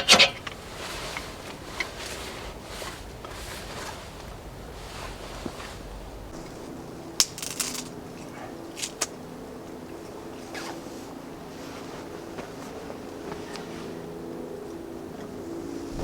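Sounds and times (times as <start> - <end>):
camp gear rustles and clicks: 0.0 - 16.0.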